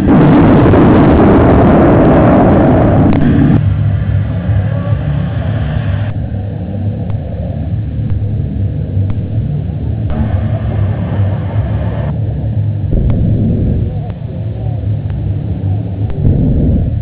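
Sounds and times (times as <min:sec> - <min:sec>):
jet engine rumbling: 0:00.0 - 0:17.0.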